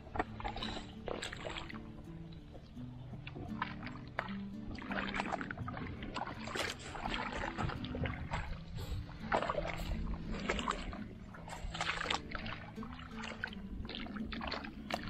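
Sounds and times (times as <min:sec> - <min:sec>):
faint background tune: 0:00.0 - 0:15.0
water splashing and sloshing: 0:00.0 - 0:15.0.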